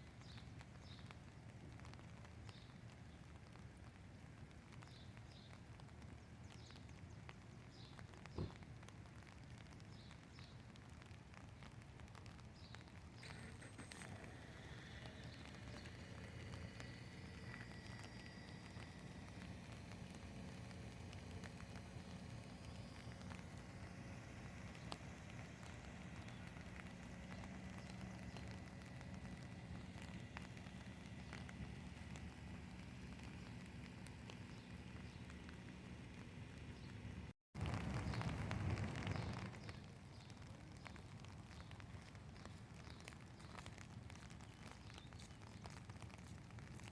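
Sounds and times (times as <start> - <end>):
light rain falling: 0.0 - 46.9
raindrops tapping close by: 0.0 - 46.9.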